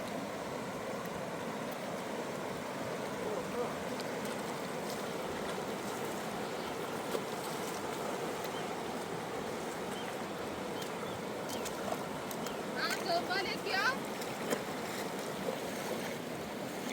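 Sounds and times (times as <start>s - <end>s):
river water rushing: 0.0s - 16.9s.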